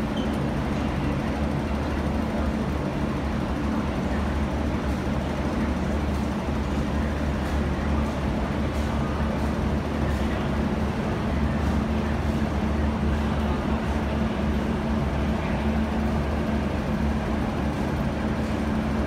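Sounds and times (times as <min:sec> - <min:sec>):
train approaching through tunnel: 0:00.0 - 0:19.0.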